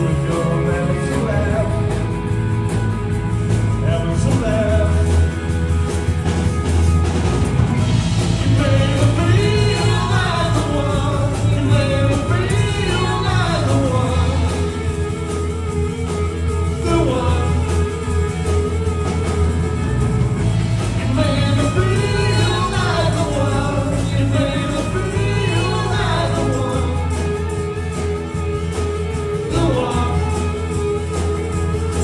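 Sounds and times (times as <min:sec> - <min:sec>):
person singing: 0:00.0 - 0:02.9, 0:03.7 - 0:05.9, 0:08.3 - 0:15.5, 0:16.6 - 0:19.5, 0:20.8 - 0:32.0
live rock band playing: 0:00.0 - 0:32.0.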